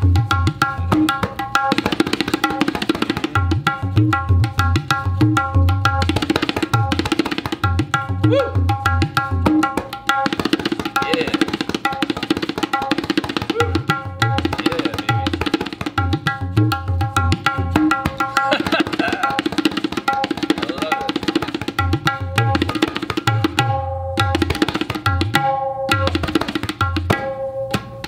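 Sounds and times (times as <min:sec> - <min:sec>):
tabla drumming: 0:00.0 - 0:28.0.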